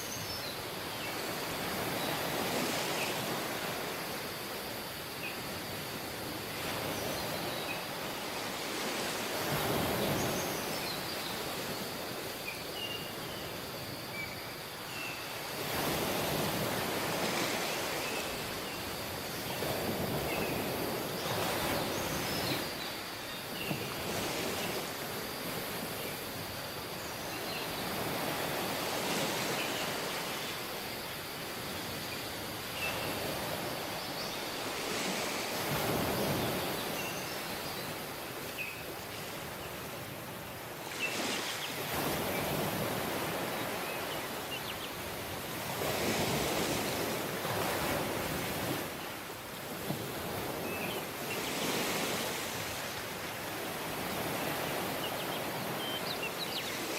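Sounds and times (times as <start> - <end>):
waves breaking on a beach: 0.0 - 56.9.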